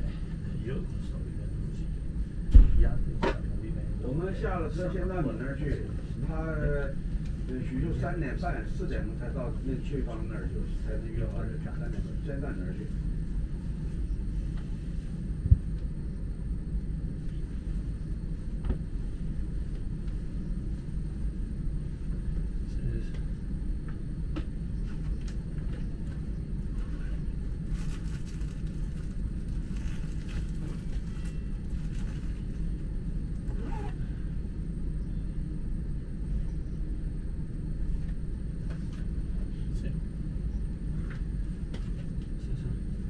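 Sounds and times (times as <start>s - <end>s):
train cabin rumble: 0.0s - 34.7s.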